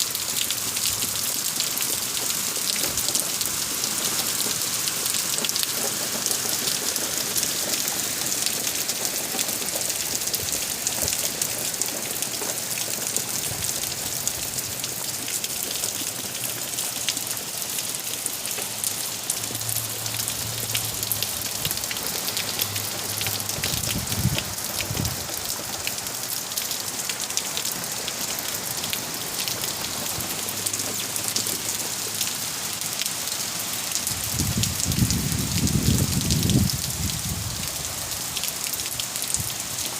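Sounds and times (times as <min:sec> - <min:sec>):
hard rain: 0:00.0 - 0:39.9.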